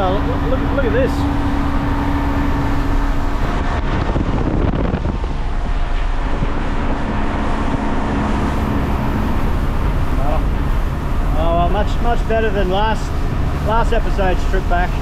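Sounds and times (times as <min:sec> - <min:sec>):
outboard motor hum: 0:00.0 - 0:15.0
water rushing against hull: 0:00.0 - 0:15.0
wind buffeting microphone: 0:00.0 - 0:15.0.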